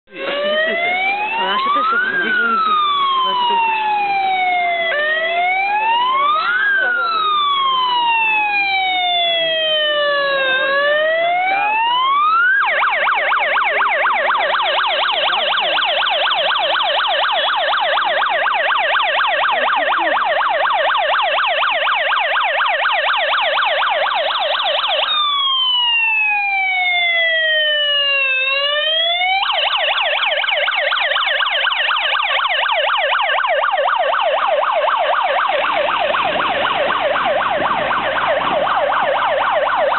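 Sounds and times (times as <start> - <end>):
fire engine siren wailing and yelping: 0.1 - 39.9.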